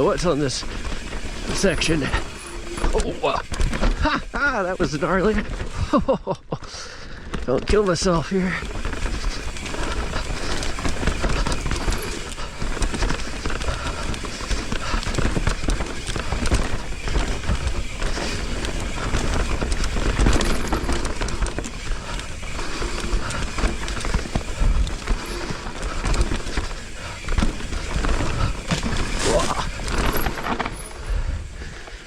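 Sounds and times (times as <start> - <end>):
bike clattering over bumps: 0.0 - 32.0
bike tyres on dirt: 0.0 - 32.0.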